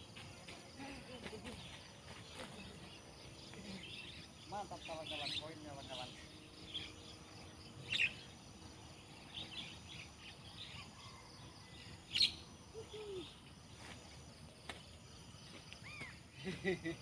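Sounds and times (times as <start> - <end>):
birds chirping: 0.2 - 13.9.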